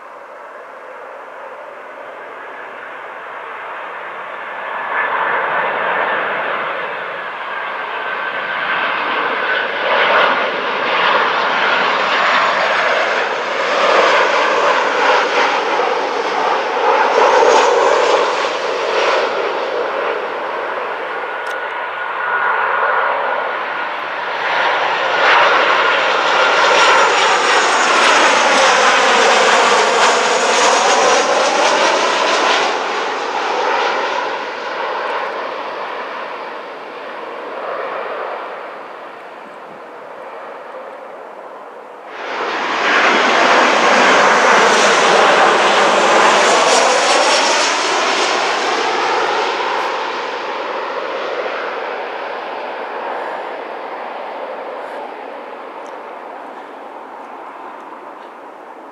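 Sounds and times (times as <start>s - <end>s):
jet airliner engines rushing: 0.0s - 58.9s.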